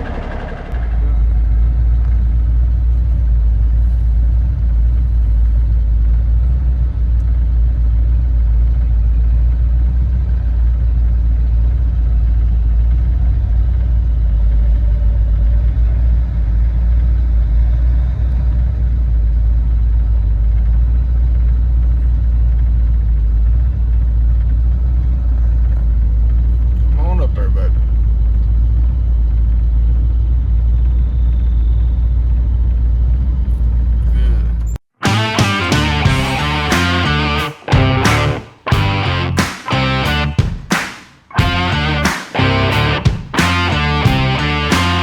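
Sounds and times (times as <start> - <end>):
diesel engine rumbling: 0.0 - 40.4, 41.3 - 45.0.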